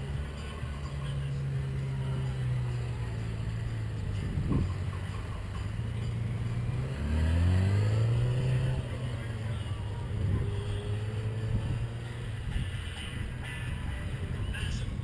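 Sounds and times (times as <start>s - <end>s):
motorcycle engine revving: 0.0s - 15.0s
motorcycle engines running: 0.0s - 15.0s.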